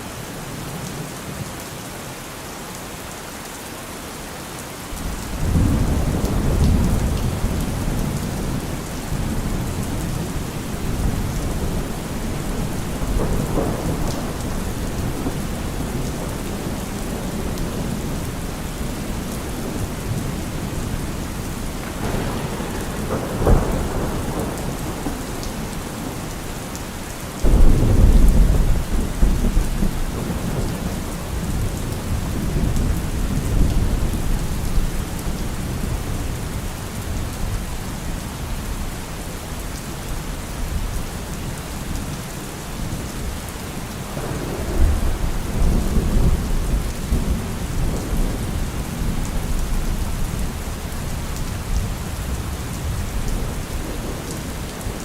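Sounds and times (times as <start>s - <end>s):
heavy rain falling: 0.0s - 55.0s
thunder rumbling: 5.0s - 37.8s, 42.8s - 55.0s.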